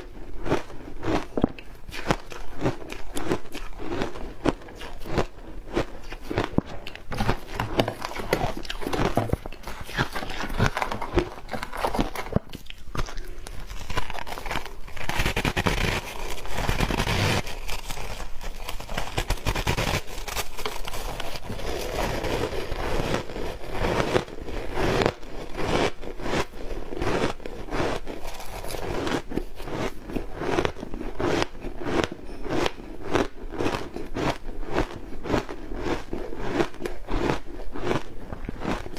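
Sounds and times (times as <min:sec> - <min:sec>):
ice being bitten and crunched: 0:00.0 - 0:38.9.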